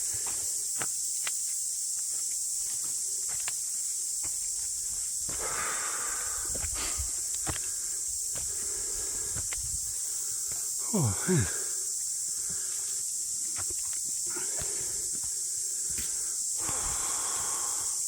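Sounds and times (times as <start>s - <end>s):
footsteps on trail: 0.0s - 17.7s
cicadas chorus: 0.0s - 18.0s.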